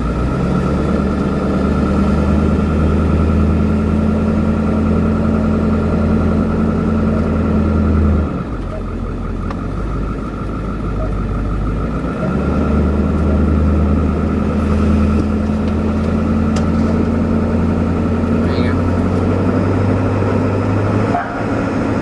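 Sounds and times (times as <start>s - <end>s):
ambulance engine drone: 0.0s - 22.0s.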